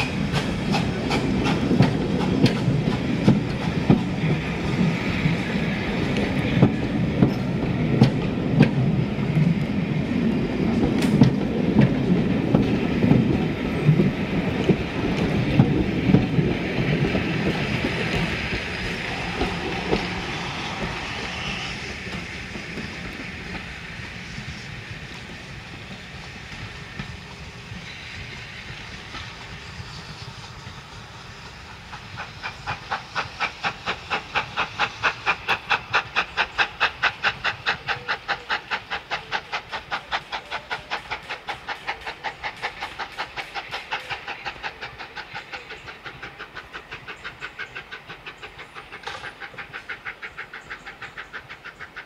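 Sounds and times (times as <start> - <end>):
hissing rumbling steam: 0.0 - 52.0
steam locomotive exhaust beats: 0.0 - 52.0.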